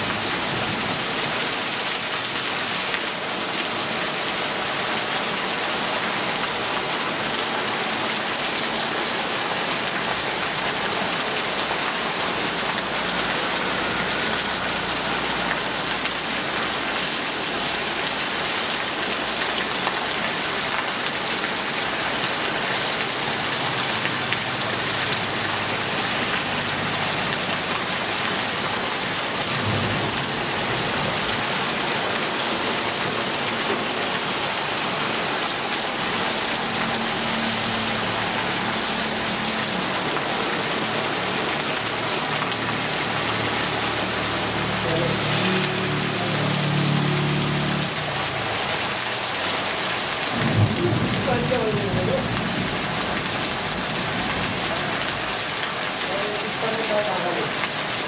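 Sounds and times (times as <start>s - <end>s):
heavy rain falling: 0.0s - 58.0s
runoff splashing into puddles: 0.0s - 58.0s.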